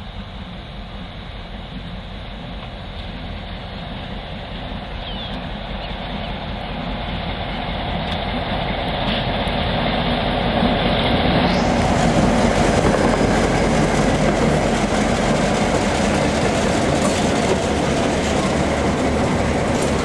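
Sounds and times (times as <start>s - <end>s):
diesel locomotive engine: 0.0s - 20.0s.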